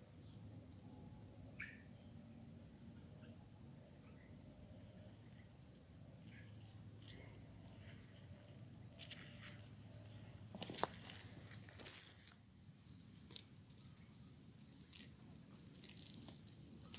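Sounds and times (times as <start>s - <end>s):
insects chorus: 0.0s - 16.9s.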